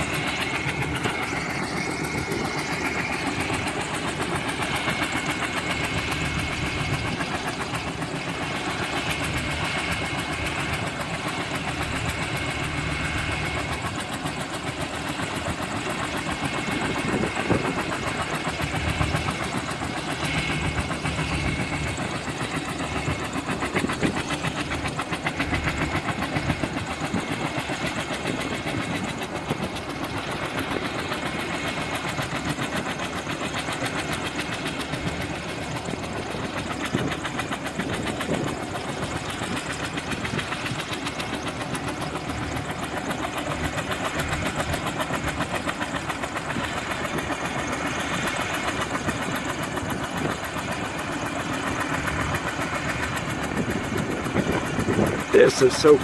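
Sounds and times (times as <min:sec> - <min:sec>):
helicopter engine and rotor: 0:00.0 - 0:56.0.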